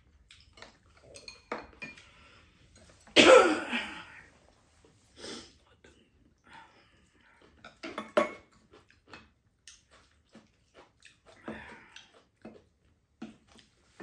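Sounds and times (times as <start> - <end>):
chewing: 0.0 - 3.0, 5.6 - 14.0.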